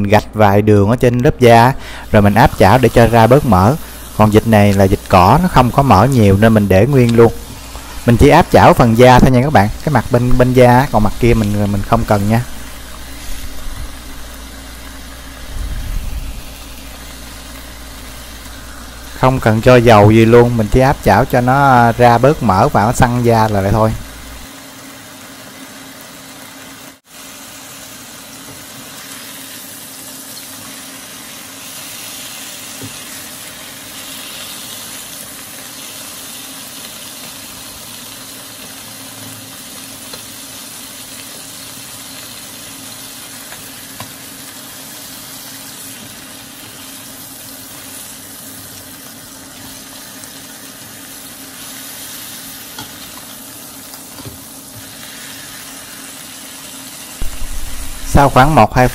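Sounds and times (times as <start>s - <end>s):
meat sizzling in a dry pan: 0.0s - 58.9s.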